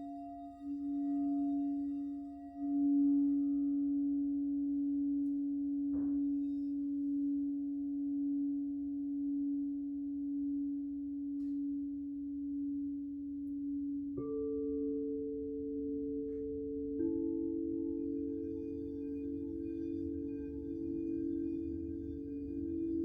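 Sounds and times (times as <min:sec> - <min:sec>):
singing bowl tone: 0:00.0 - 0:23.0.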